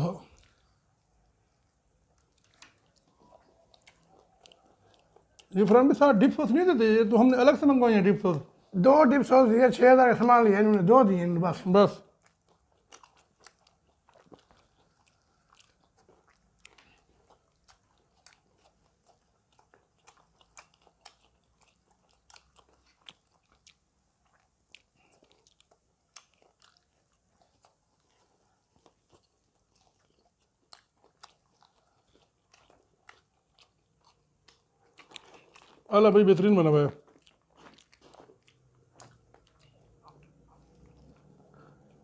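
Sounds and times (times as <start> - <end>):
crunchy chewing: 0.0 - 6.1, 12.0 - 42.0.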